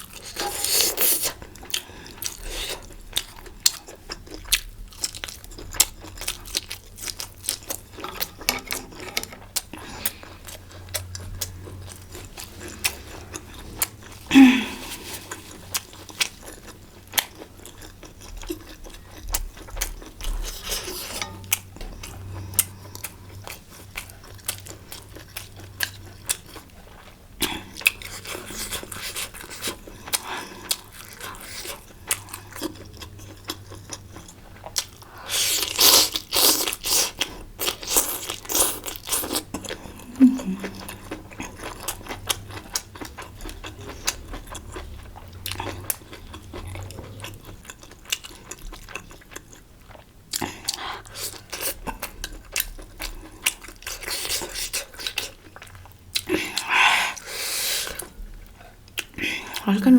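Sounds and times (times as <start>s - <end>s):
person chewing food: 0.0s - 59.7s.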